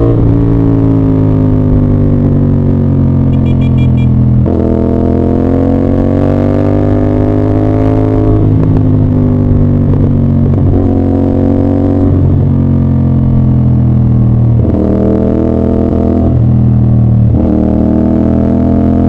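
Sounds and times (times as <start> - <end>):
motorcycle engine and exhaust: 0.0 - 19.0.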